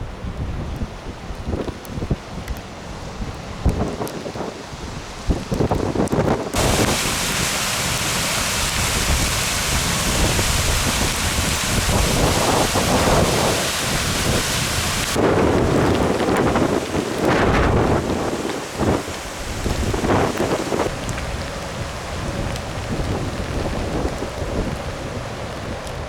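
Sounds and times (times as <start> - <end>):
rain falling with steady hiss: 0.0 - 26.0
wind buffeting microphone: 0.0 - 26.0.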